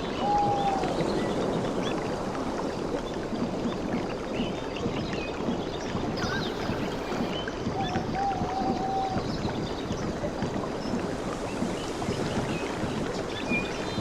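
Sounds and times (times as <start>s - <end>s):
waves lapping on beach: 0.0s - 14.0s.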